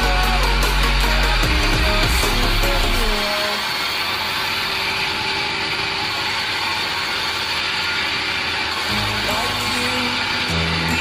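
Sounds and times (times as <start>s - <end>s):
band saw cutting log: 0.0s - 11.0s.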